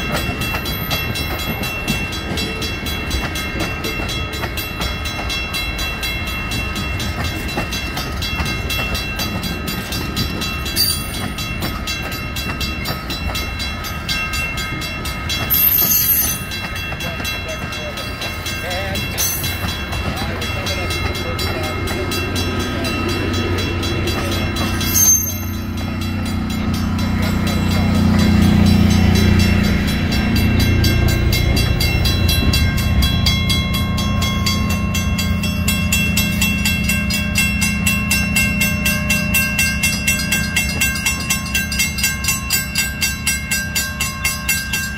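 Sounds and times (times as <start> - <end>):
train wheels rumbling on rails: 0.0 - 44.9
wheels clicking over rail joints: 0.0 - 44.9.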